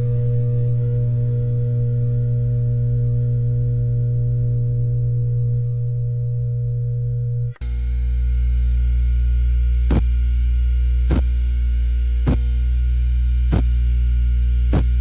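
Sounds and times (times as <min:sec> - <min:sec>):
incubator humming: 0:00.0 - 0:15.0.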